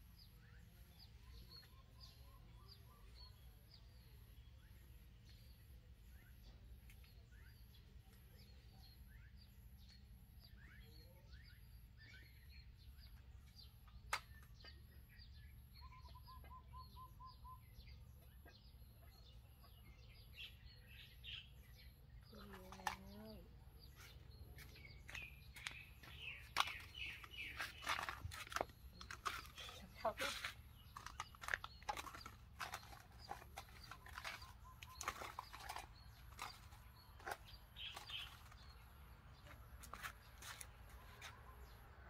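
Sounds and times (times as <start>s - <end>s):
birds chirping and trilling: 0.0s - 42.0s.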